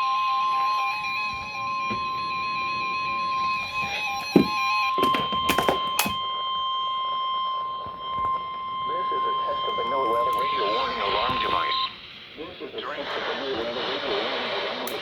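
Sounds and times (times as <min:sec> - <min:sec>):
steady warning alarm tone: 0:00.0 - 0:14.9.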